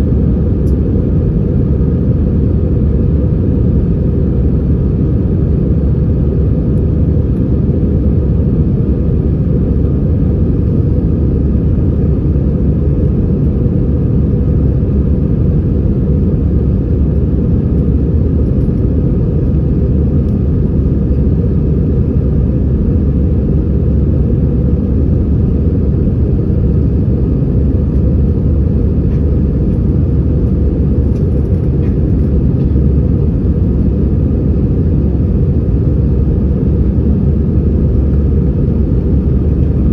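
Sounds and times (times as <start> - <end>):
aircraft cabin engine roar: 0.0 - 39.9.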